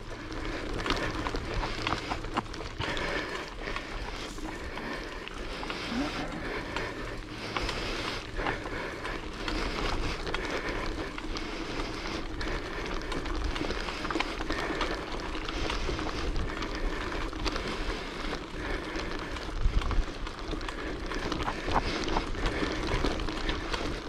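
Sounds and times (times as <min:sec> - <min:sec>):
bicycle clicks and rattles: 0:00.0 - 0:24.0
bicycle riding rush: 0:00.0 - 0:24.0.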